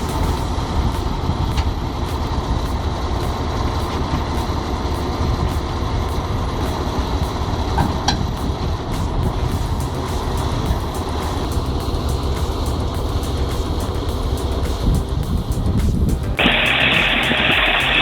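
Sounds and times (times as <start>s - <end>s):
diesel engine rumbling: 0.0s - 18.0s
sharp high-pitched sound: 0.0s - 18.0s.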